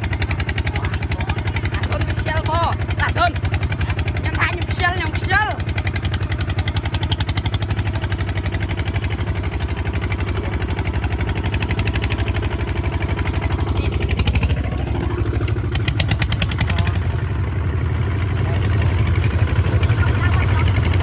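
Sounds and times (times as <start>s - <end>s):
tractor engine chugging: 0.0s - 21.0s.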